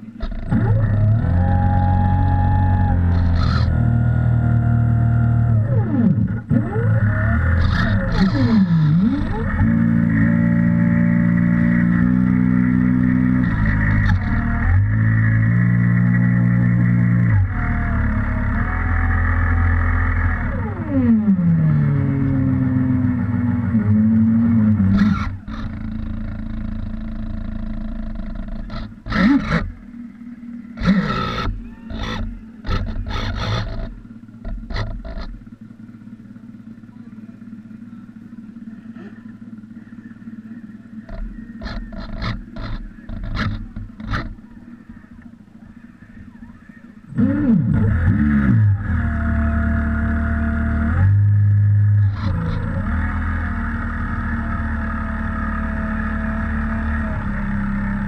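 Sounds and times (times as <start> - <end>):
model boat motor: 0.0 - 58.0.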